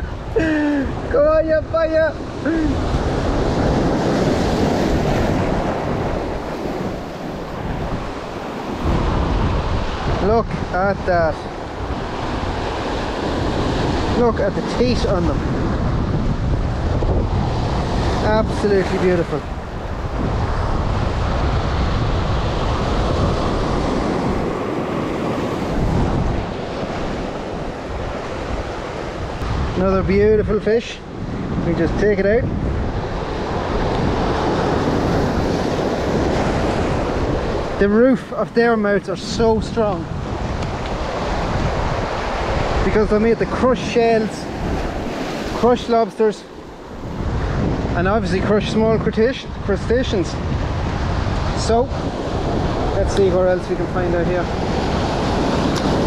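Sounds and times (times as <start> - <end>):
sea surf washing over rocks: 0.0 - 56.0
wind buffeting microphone: 0.0 - 56.0.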